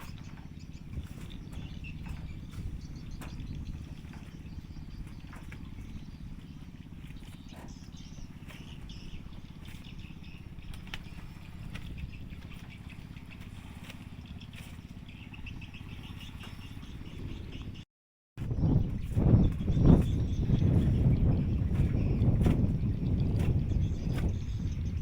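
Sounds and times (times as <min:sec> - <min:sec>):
birds chirping: 0:00.0 - 0:17.8, 0:18.4 - 0:25.0
steady low rumble: 0:00.0 - 0:17.8, 0:18.4 - 0:25.0.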